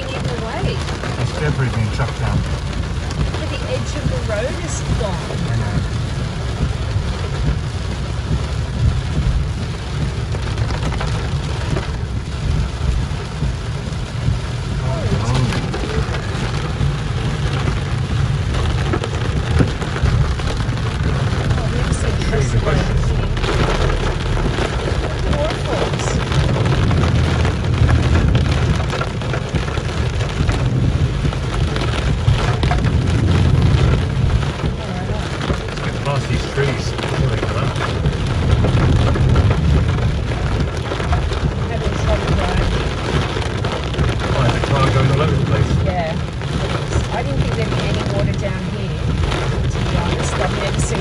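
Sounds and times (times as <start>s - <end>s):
constant low rumble: 0.0s - 51.0s
heavy rain on a car: 0.0s - 51.0s.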